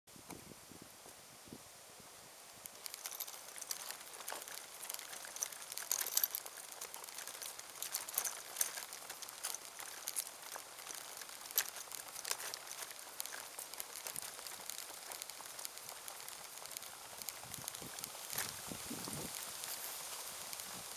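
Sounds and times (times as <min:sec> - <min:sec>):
faint hiss: 0:00.1 - 0:20.9
grit and leaves crunching: 0:02.7 - 0:20.9.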